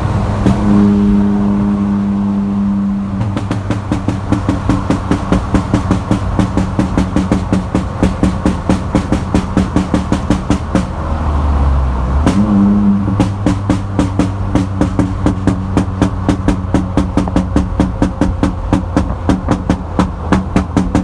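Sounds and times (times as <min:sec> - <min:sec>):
deep engine rumble: 0:00.0 - 0:21.0
exhaust popping and crackling: 0:00.0 - 0:21.0.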